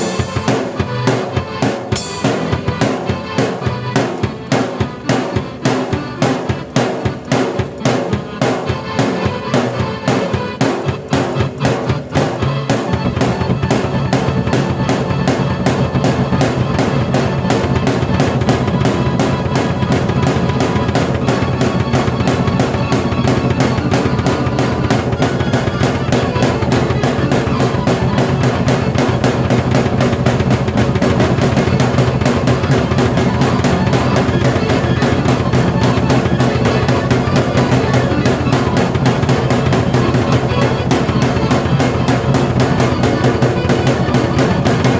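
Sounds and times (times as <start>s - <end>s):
drum kit groove: 0.0s - 44.9s
keyboard chords: 0.0s - 44.9s.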